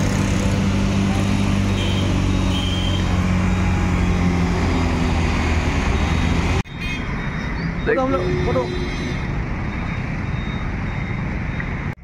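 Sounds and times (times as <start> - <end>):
traffic engines passing and idling: 0.0 - 12.0.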